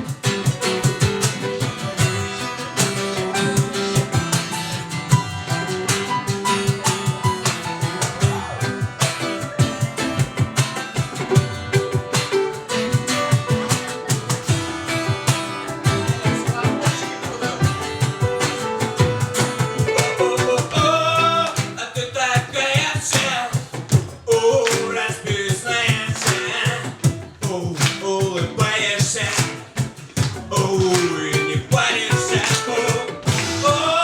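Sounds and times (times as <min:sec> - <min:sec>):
acoustic guitar playing: 0:00.0 - 0:34.0.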